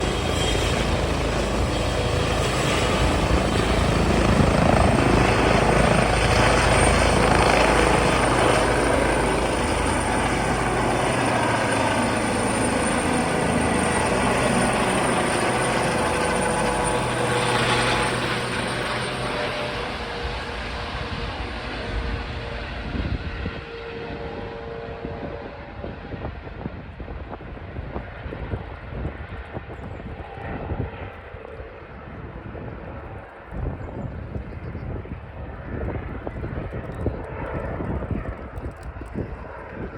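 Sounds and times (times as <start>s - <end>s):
helicopter turbine engines and rotor: 0.0s - 39.9s.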